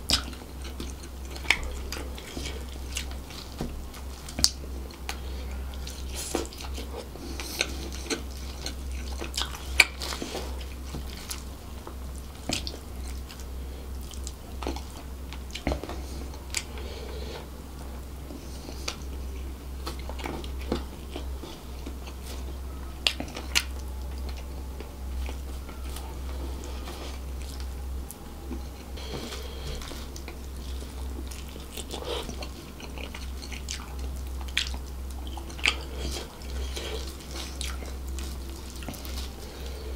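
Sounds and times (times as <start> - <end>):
man chewing and biting food: 0.0 - 39.9
steady low hum: 0.0 - 39.9.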